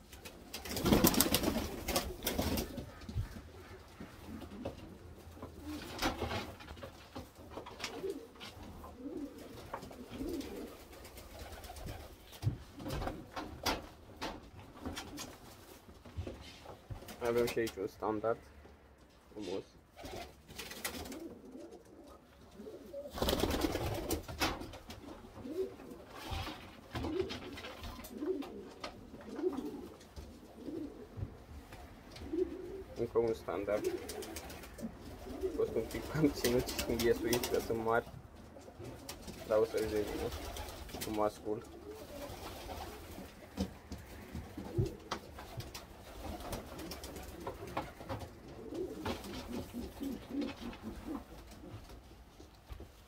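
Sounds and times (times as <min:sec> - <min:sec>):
pigeons cooing: 0:00.7 - 0:06.5, 0:07.6 - 0:15.4, 0:19.4 - 0:51.8.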